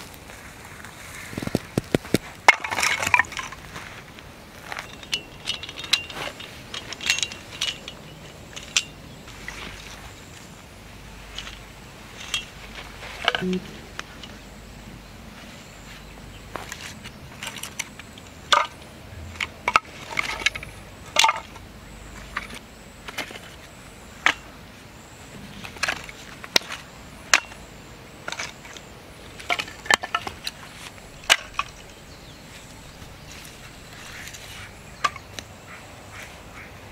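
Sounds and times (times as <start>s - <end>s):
firewood pieces clacking: 1.3s - 10.5s, 11.3s - 14.4s, 16.5s - 24.5s, 25.6s - 35.5s.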